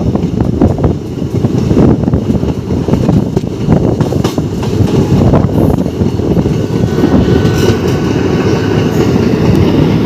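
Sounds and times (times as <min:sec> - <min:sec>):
train rumbling: 0:00.0 - 0:10.0
wind buffeting microphone: 0:00.0 - 0:10.0.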